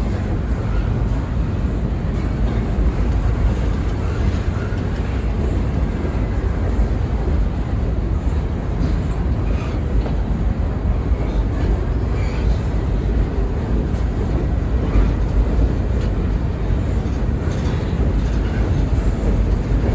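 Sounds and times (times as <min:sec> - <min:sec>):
freight train rolling past: 0:00.0 - 0:19.9.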